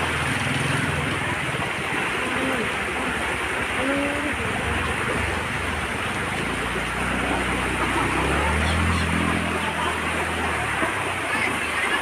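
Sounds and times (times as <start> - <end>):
floodwater rushing over road edge: 0.0 - 12.0.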